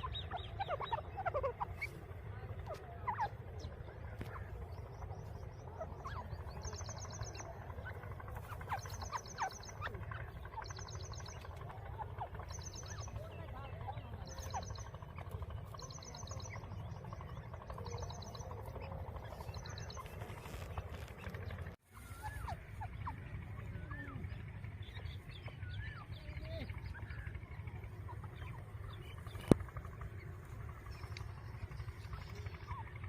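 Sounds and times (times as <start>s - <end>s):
chicks cheeping: 0.0s - 2.0s, 2.6s - 32.8s
steady low rumble: 0.0s - 33.0s.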